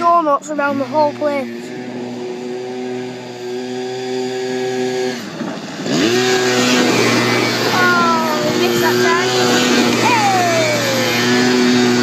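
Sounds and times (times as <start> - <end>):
noisy rush: 0.0 - 12.0
quad bike engine revving: 0.0 - 12.0.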